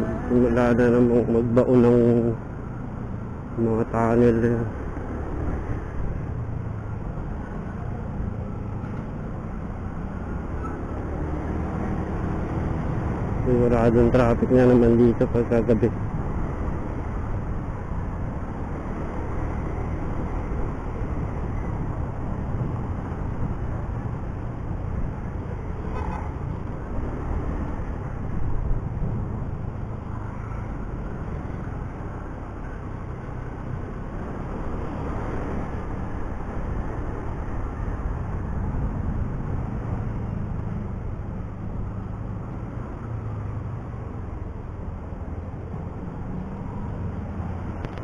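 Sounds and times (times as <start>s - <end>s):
road noise: 0.0s - 48.0s.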